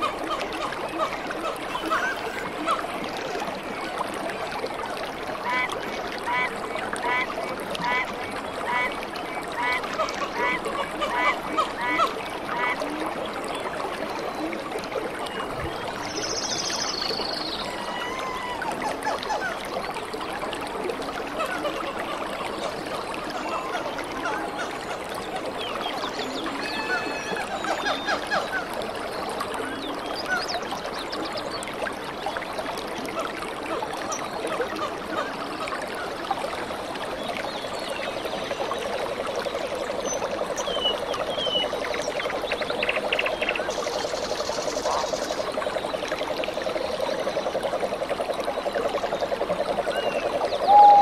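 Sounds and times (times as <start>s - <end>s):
stream water running: 0.0s - 51.0s.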